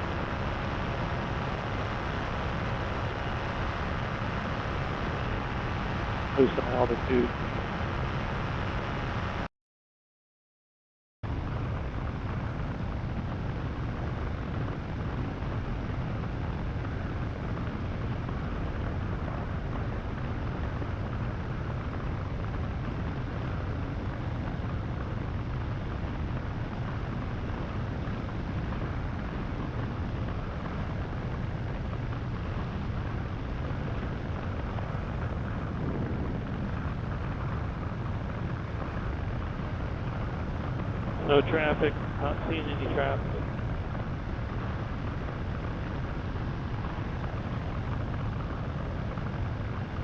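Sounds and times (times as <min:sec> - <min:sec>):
paramotor engine droning: 0:00.0 - 0:09.5, 0:11.3 - 0:50.0.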